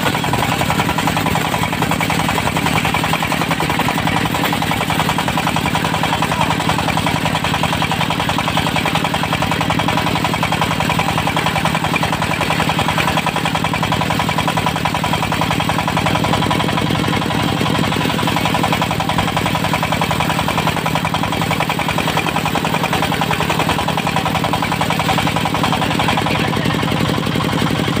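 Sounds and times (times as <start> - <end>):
diesel engine chugging: 0.0 - 28.0.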